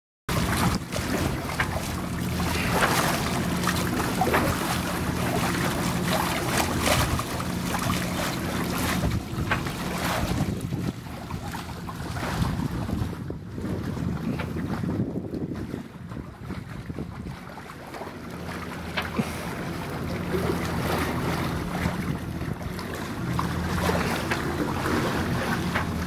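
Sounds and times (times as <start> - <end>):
water splashing along hull: 0.3 - 26.0
wind buffeting microphone: 0.3 - 26.0.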